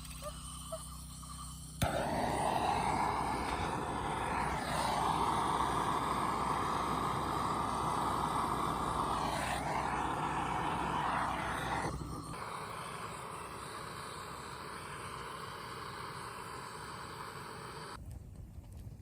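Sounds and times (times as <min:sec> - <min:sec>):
butane torch hissing: 0:00.3 - 0:18.0.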